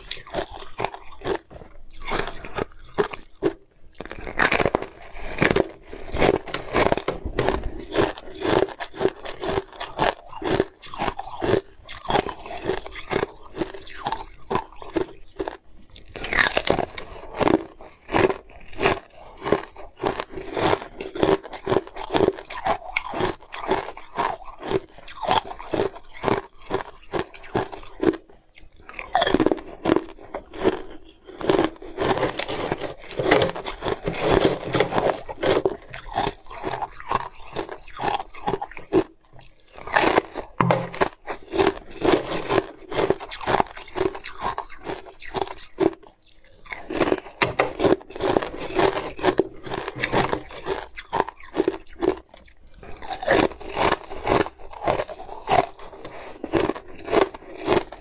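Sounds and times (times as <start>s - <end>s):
ice crunching between teeth: 0.0s - 58.0s.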